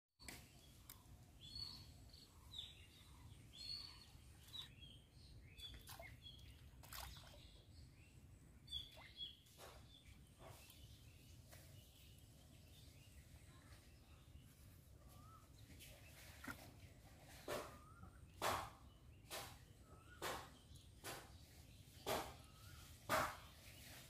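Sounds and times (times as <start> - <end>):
birds chirping: 0.2 - 24.0.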